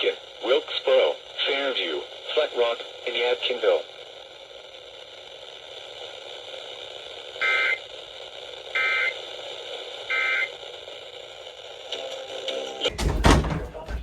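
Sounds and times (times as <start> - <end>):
radio hiss: 0.0 - 12.9.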